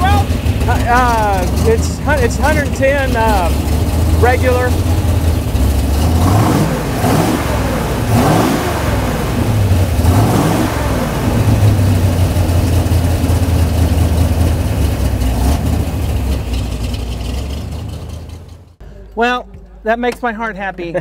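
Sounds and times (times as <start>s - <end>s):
race car engine idling and revving: 0.0s - 18.8s.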